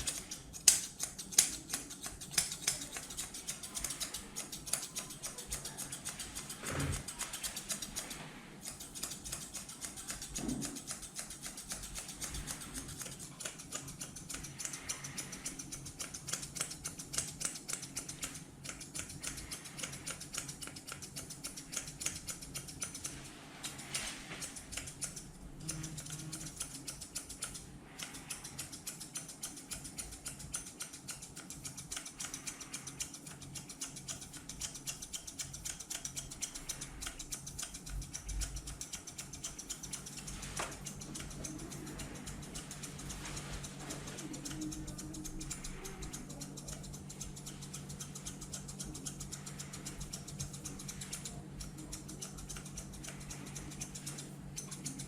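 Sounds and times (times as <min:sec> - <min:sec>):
scissors snipping fur: 0:00.0 - 0:55.0.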